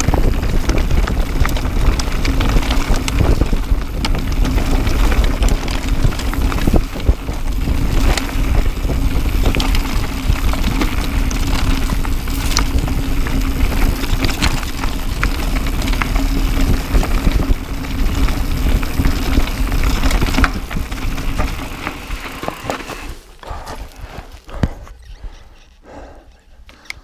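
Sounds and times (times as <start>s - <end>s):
tyres crunching over loose stones: 0.0s - 25.8s
wind rumble on microphone: 0.0s - 26.2s
bike rattling and knocking: 0.0s - 27.0s.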